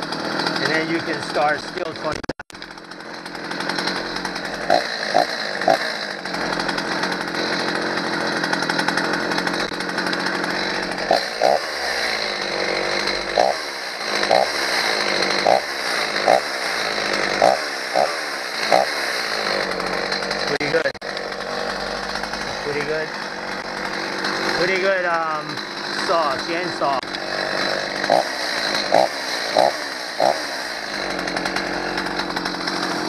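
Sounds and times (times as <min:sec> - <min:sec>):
chainsaw running and revving: 0:00.0 - 0:33.0.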